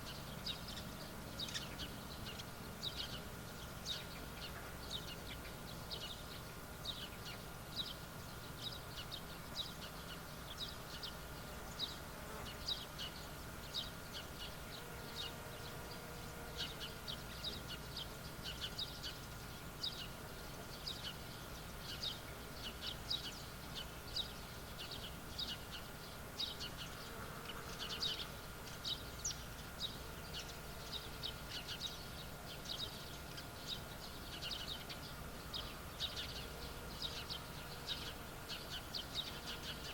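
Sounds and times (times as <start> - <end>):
faint high hum: 0.0 - 39.9.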